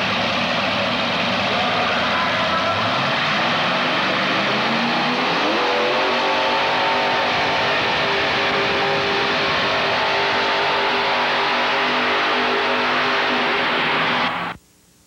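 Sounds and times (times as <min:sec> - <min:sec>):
tractor engine revving: 0:00.0 - 0:14.5.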